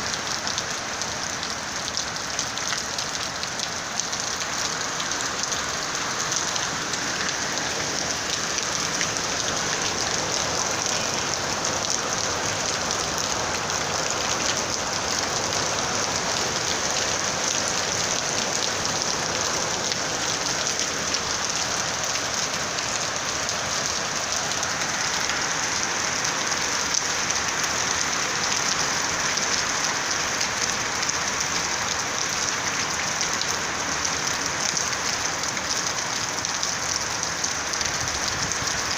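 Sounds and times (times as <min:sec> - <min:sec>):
rain on a flat roof: 0:00.0 - 0:38.9.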